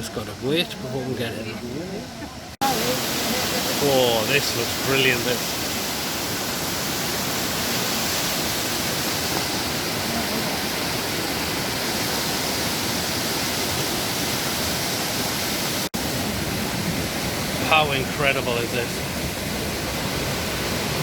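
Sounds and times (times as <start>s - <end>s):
waterfall rushing: 2.6s - 21.0s.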